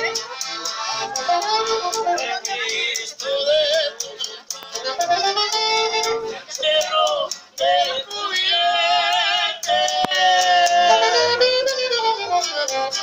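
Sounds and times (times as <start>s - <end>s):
band with saxophone and accordion: 0.0s - 13.0s.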